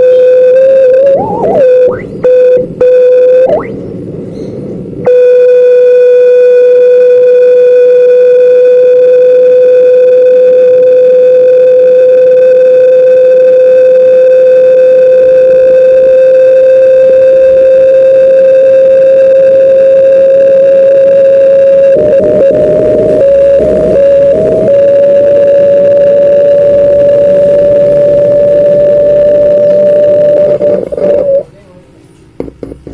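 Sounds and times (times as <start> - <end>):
speaker whistling tone: 0.0 - 3.8, 5.1 - 31.5.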